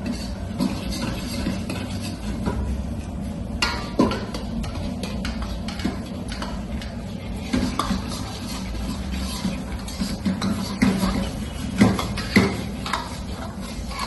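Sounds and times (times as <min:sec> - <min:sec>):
metal ladle scraping a wok: 0:00.0 - 0:02.6, 0:03.7 - 0:14.0.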